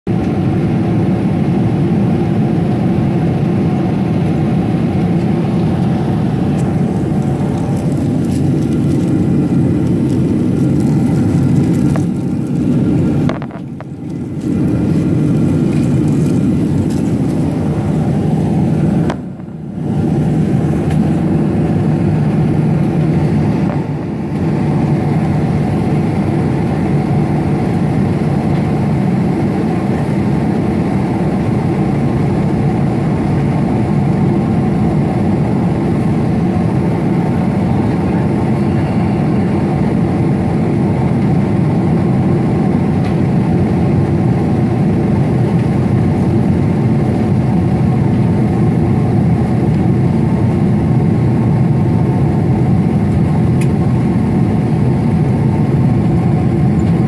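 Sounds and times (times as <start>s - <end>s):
jet engine and airflow rush: 0.1s - 57.0s.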